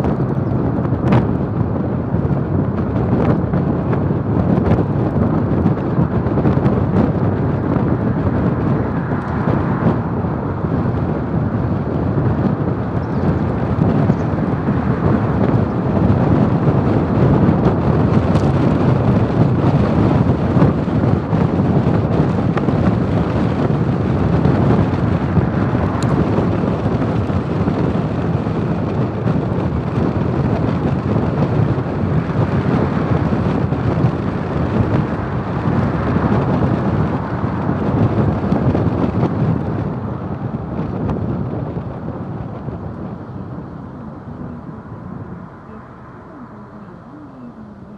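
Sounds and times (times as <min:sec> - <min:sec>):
road and tyre noise: 0:00.0 - 0:47.9
wind buffeting microphone: 0:00.0 - 0:47.9.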